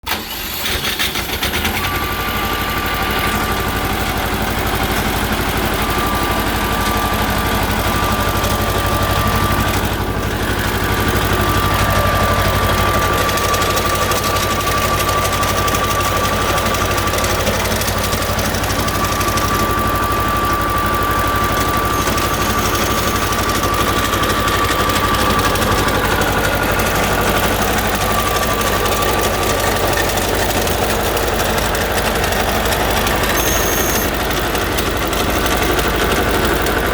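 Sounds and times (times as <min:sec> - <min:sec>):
concrete saw engine running: 0:00.0 - 0:36.9.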